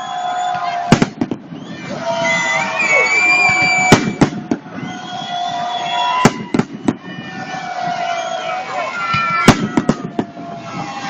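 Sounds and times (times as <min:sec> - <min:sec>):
fireworks bangs: 0:00.4 - 0:08.0, 0:09.0 - 0:11.0.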